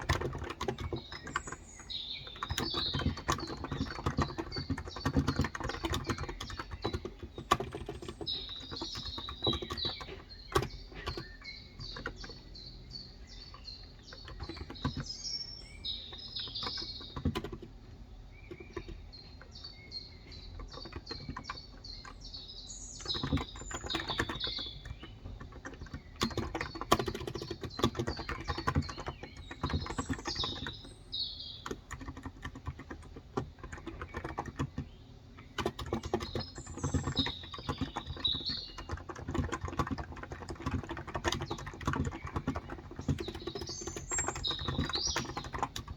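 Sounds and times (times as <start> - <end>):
keyboard typing: 0.0 - 19.6, 20.2 - 22.4, 23.0 - 45.9
birds chirping: 0.0 - 45.9.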